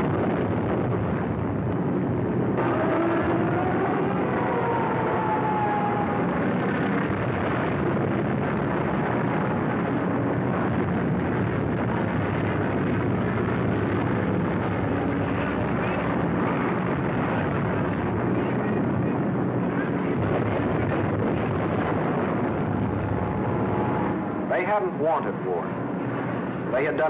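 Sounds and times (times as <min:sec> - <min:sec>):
aircraft engines roaring: 0:00.0 - 0:27.0
falling whine: 0:00.0 - 0:27.0.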